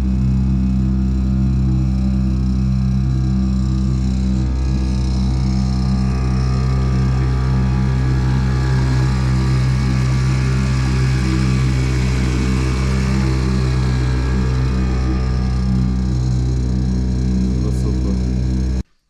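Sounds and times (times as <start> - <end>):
outboard motor droning: 0.0 - 18.8.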